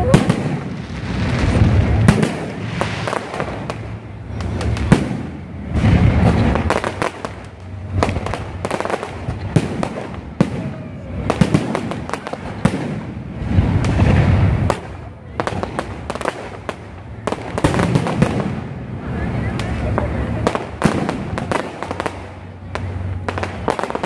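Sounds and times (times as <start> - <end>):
fireworks bangs and crackles: 0.0 - 24.0
low rumbling shell bursts: 0.0 - 24.0.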